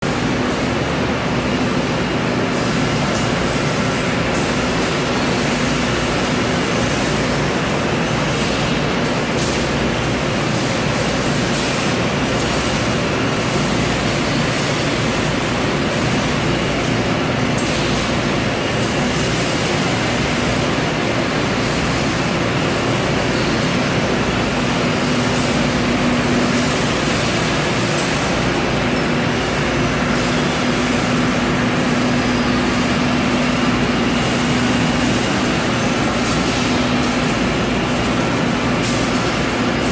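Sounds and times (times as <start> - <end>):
floor cleaning machine droning: 0.0 - 39.9.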